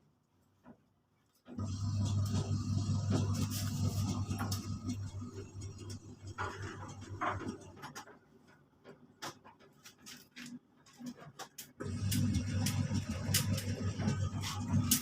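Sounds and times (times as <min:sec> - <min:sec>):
washing machine running: 0:01.5 - 0:15.0.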